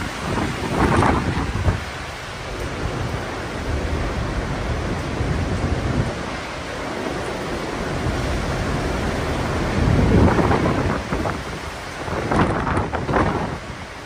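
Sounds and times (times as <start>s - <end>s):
torrential rain and wind: 0.0s - 14.0s.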